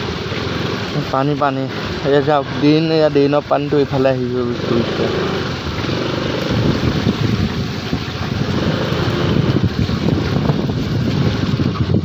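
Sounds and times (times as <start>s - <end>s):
scooter engine running: 0.0s - 12.0s
tyres rolling through water: 0.0s - 12.0s
wind buffeting microphone: 0.0s - 12.0s.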